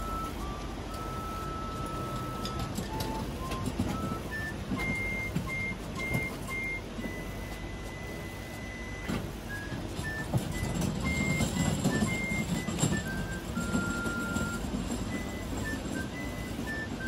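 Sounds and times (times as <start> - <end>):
electronic beeping melody: 0.0 - 17.0.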